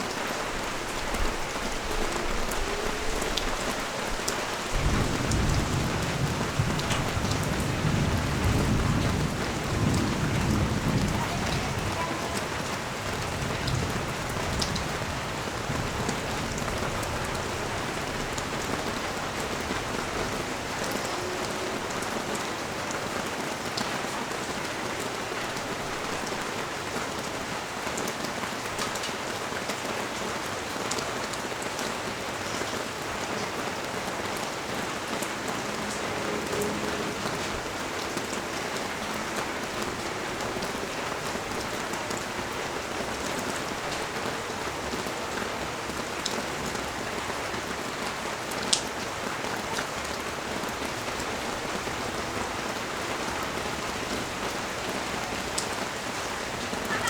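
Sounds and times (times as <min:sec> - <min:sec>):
rain on street hissing: 0:00.0 - 0:57.0
raindrops ticking close by: 0:00.0 - 0:57.0.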